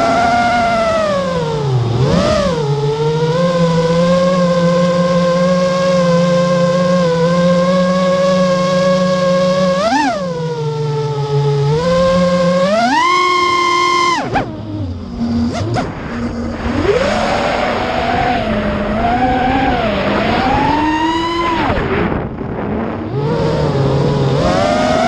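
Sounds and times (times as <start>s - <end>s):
damaged motor whining: 0.0s - 25.0s.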